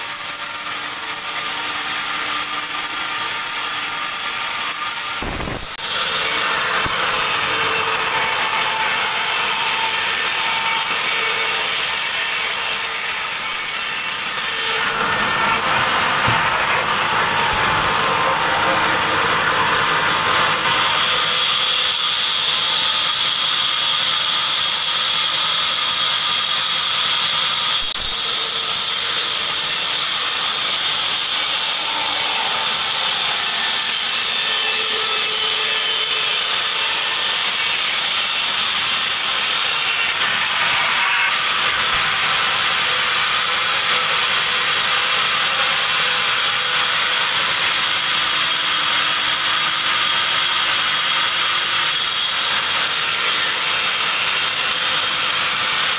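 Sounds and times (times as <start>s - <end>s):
band saw cutting log: 0.0s - 55.9s.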